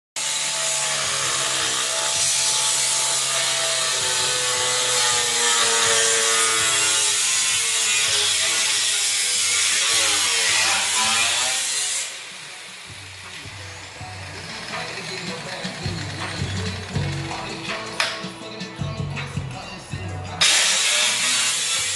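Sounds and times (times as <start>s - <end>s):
power tool grinding metal: 0.2s - 18.6s, 20.3s - 21.9s.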